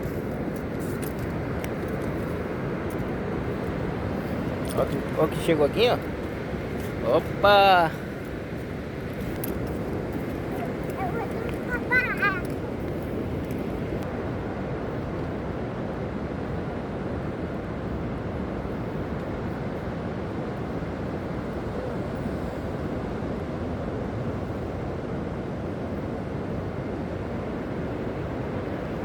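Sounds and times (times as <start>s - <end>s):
sea surf rushing: 0.0s - 29.0s
wind: 0.0s - 29.0s.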